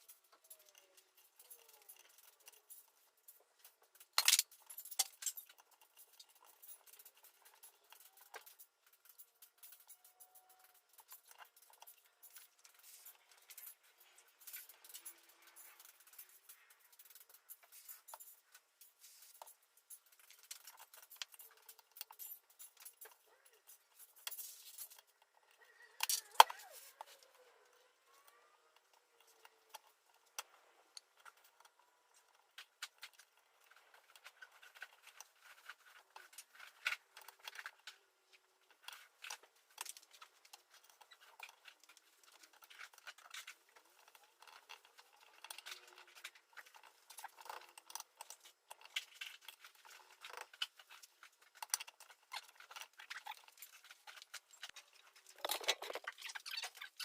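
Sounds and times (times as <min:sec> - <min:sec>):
small hard parts clicking: 0:00.0 - 0:57.0.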